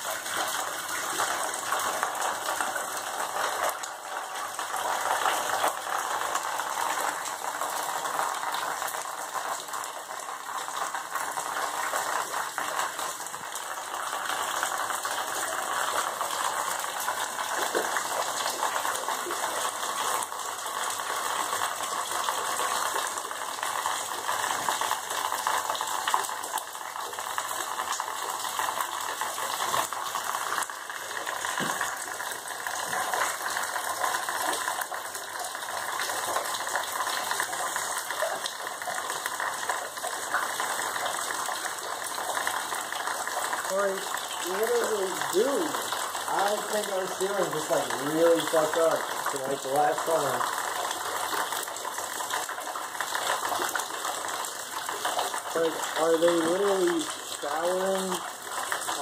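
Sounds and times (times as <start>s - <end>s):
water splattering onto floor: 0.0s - 59.0s.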